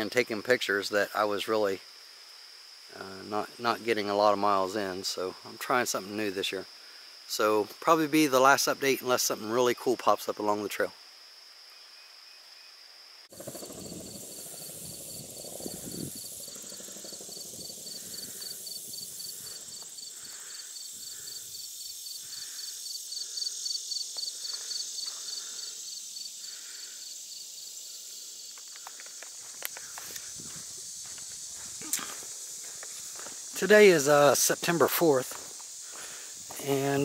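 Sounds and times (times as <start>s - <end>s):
high insect hiss: 0.0s - 37.0s
insects chirping rhythmically: 0.0s - 37.0s.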